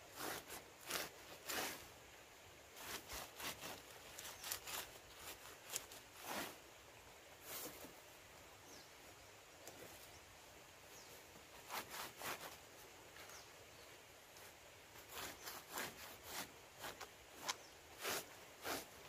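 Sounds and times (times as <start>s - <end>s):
leaves rustling and crinkling: 0.0s - 19.0s.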